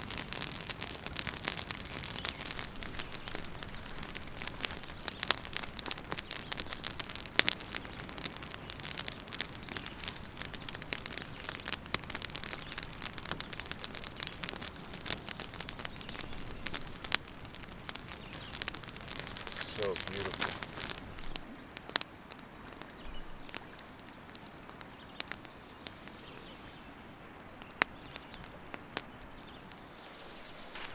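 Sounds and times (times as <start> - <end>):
campfire crackling: 0.0 - 30.9.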